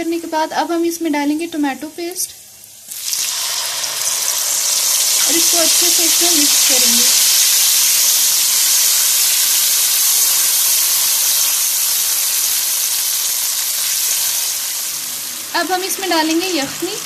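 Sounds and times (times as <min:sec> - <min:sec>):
tomato paste sizzling in oil: 0:01.0 - 0:17.0.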